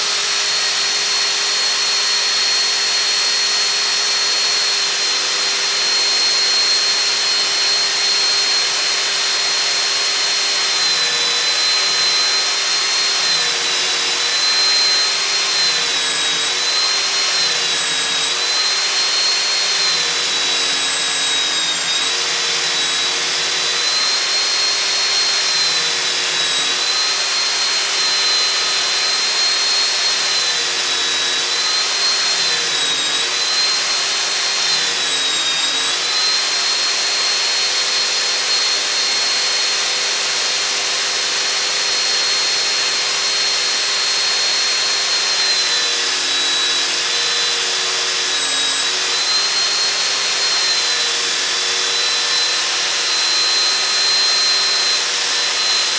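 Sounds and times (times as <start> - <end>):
belt sander whining: 0.0 - 55.9.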